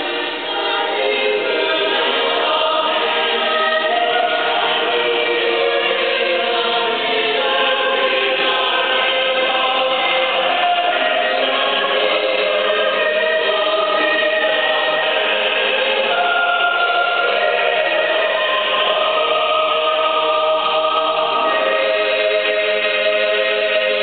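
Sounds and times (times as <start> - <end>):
mixed choir singing in harmony: 0.0 - 24.0.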